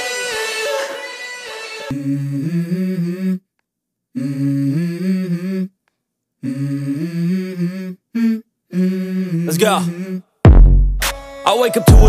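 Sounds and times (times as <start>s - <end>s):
hummed vocal melody: 0.0s - 10.4s.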